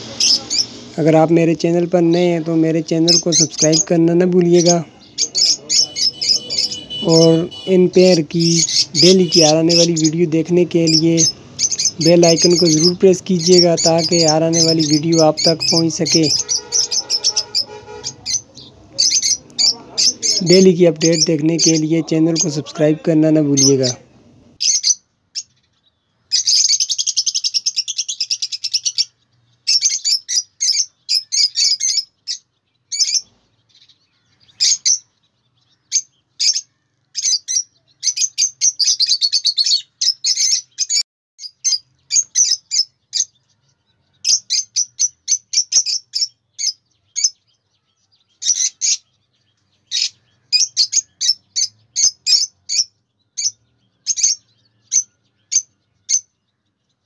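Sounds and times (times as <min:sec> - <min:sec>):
lovebirds chirping and chattering: 0:00.0 - 0:57.0.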